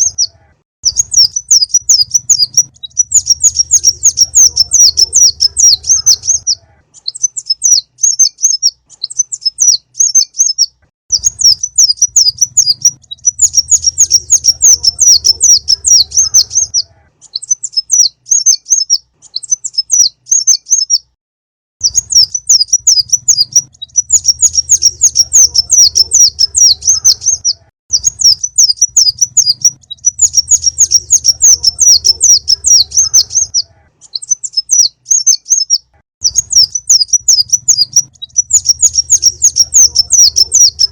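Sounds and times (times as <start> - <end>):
bird chattering trills: 0.0 - 21.2, 21.8 - 40.9.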